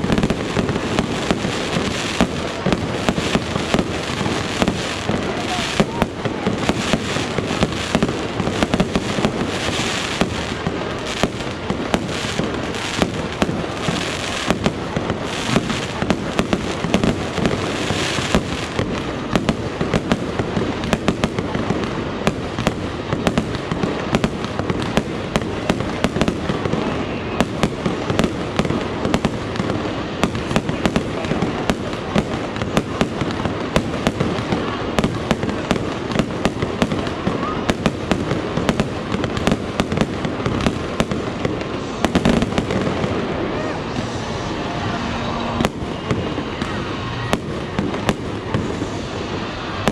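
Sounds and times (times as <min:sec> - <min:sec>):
fireworks bangs: 0:00.0 - 0:49.9.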